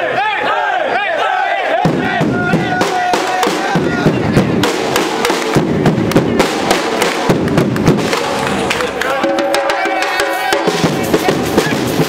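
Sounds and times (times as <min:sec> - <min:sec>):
crowd voices: 0:00.0 - 0:12.0
drum band playing fast rhythm: 0:01.8 - 0:12.0.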